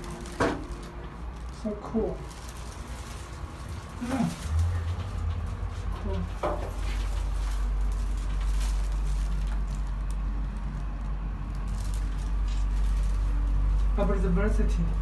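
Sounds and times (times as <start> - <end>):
elevator low hum: 0.0 - 15.0.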